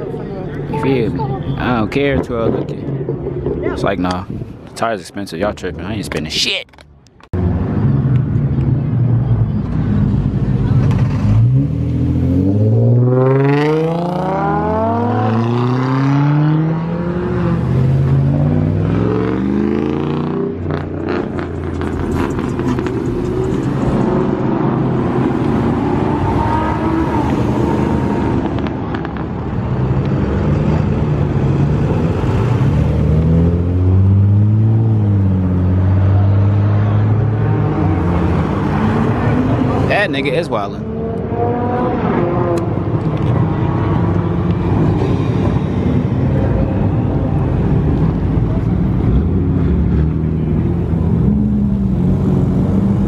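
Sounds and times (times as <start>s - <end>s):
car engine revving: 7.4s - 53.0s.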